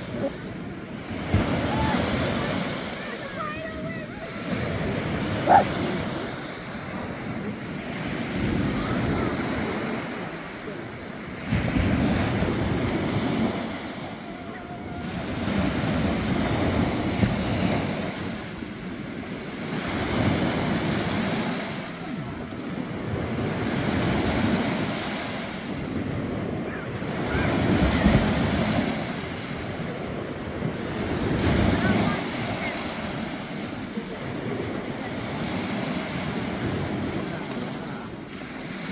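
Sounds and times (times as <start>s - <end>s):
waves breaking on sandy beach: 0.0s - 38.9s.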